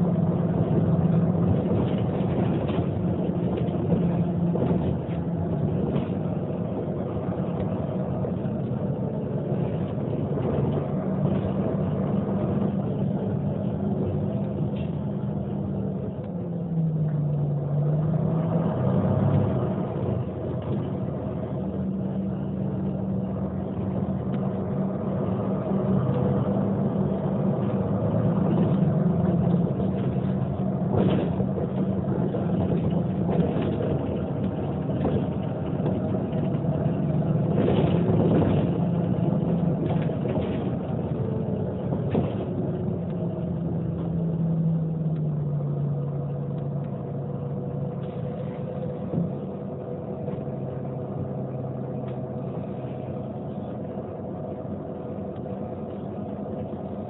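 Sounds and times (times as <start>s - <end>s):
bus diesel engine idling: 0.0s - 17.8s, 19.2s - 57.0s.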